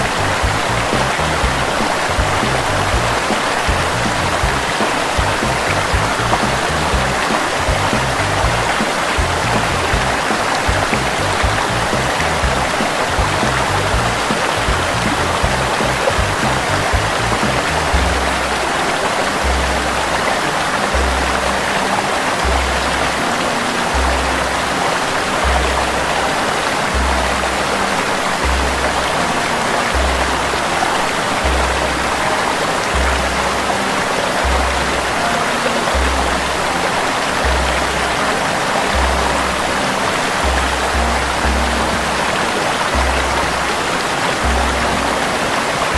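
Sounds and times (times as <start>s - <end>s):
music with low bass pulse: 0.0s - 45.9s
water splashing down rocks: 0.0s - 45.9s.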